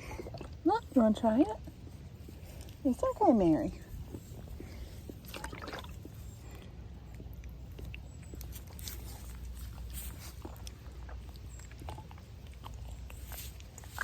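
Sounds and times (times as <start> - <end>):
farm animals moving about: 0.4 - 14.0.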